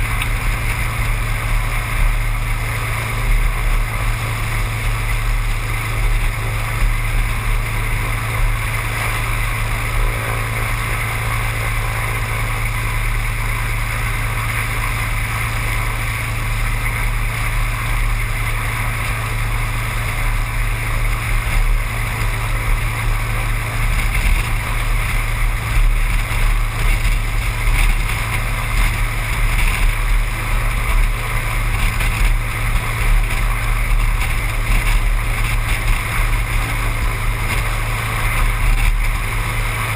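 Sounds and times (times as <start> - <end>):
seaplane engine and propeller drone: 0.0 - 39.9.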